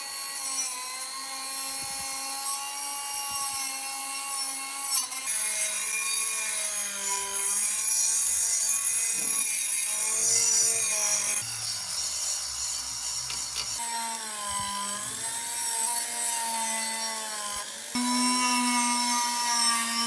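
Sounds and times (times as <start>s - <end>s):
power tool motor whine: 0.0s - 20.0s.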